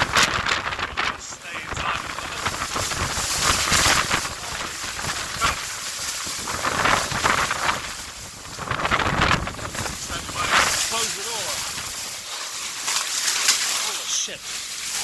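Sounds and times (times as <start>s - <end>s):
strong wind gusting: 0.0s - 12.2s
wind buffeting microphone: 0.0s - 12.2s.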